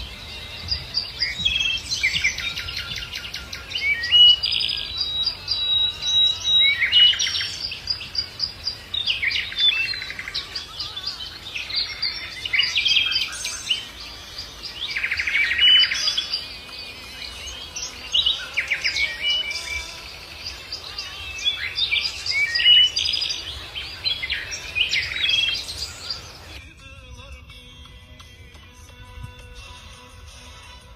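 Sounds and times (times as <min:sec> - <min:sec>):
songbirds singing: 0:00.0 - 0:30.9.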